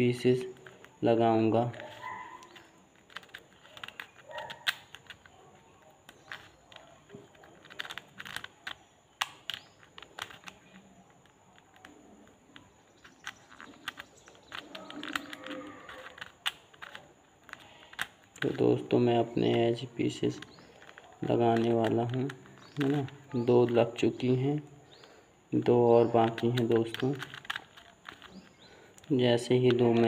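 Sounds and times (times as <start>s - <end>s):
plastic puzzle cube clicking: 0.1s - 30.0s.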